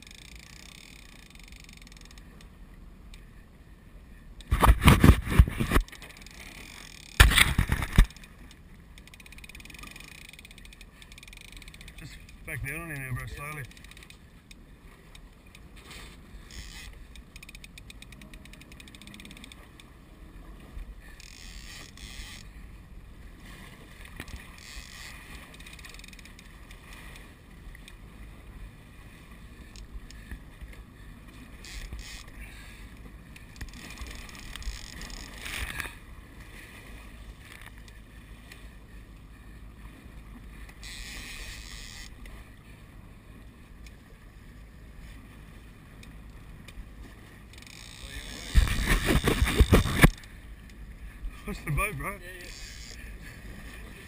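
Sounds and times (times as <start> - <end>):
outboard motor rumbling: 0.0 - 54.0
water splashing against hull: 0.0 - 54.0.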